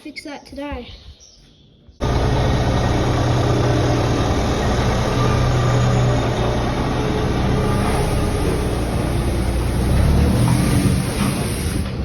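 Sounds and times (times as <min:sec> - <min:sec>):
engine humming: 0:02.0 - 0:12.0.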